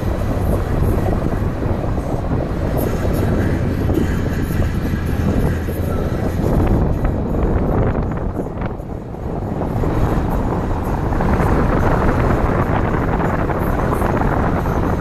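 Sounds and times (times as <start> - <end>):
car driving on road: 0.0 - 15.0
wind buffeting microphone: 0.0 - 15.0.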